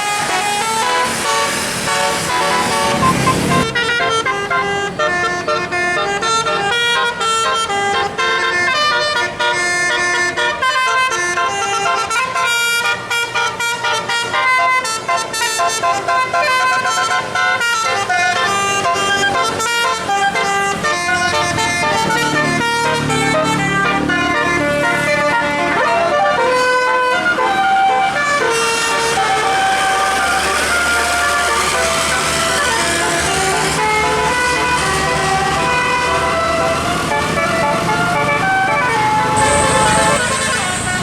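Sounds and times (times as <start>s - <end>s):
musical air horn tune: 0.0s - 41.0s.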